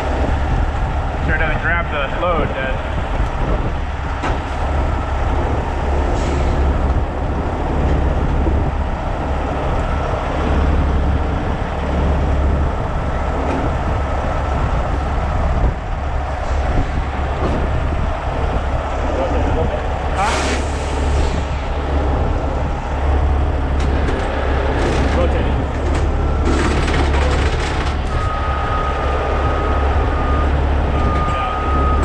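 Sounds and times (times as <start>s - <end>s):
diesel truck engine rumbling: 0.0s - 32.0s.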